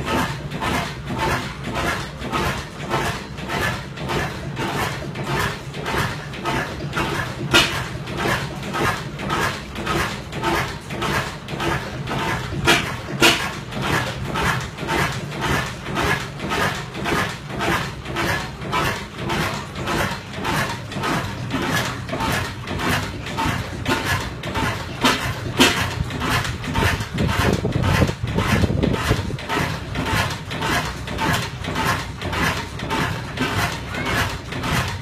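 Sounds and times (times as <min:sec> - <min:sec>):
oil engine clanking knocks: 0:00.0 - 0:35.0.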